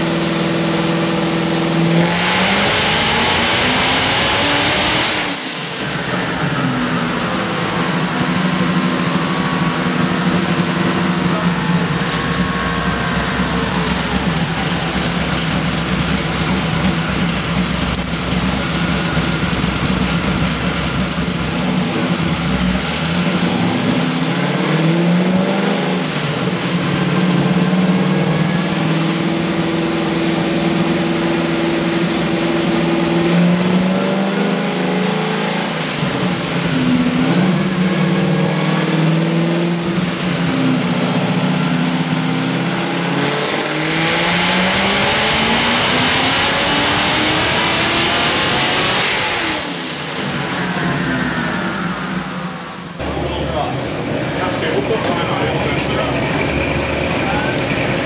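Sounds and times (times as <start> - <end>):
car engine revving on dyno: 0.0 - 58.0.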